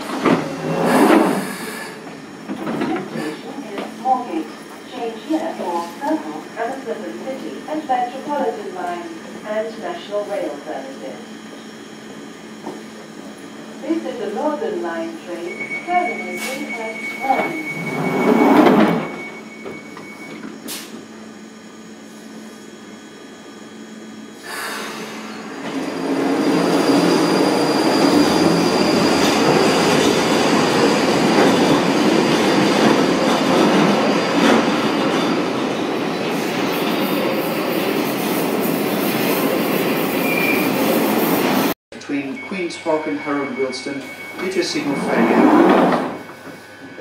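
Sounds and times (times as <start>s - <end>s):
train wheels rumbling on rail: 0.0s - 21.2s, 24.1s - 41.7s, 44.4s - 47.0s.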